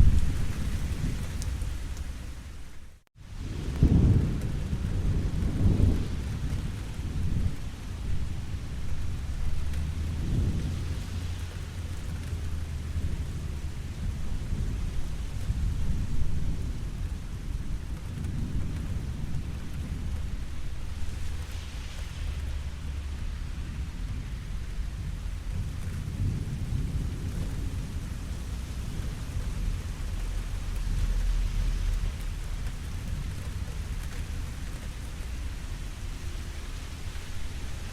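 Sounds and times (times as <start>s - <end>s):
rain hissing: 0.0s - 37.9s
thunder rumbling: 0.0s - 37.9s.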